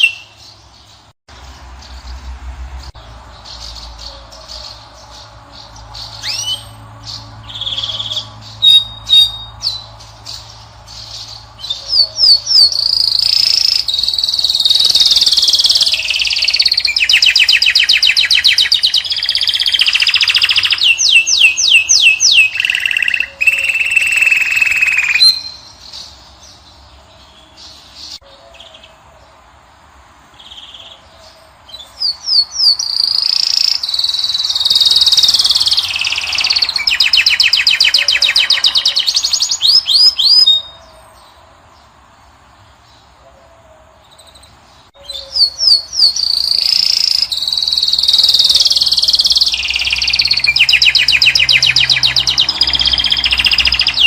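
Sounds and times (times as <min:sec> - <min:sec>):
goldfinch singing trills: 0:00.0 - 0:02.2, 0:02.8 - 0:28.9, 0:30.4 - 0:41.1, 0:44.2 - 0:54.0.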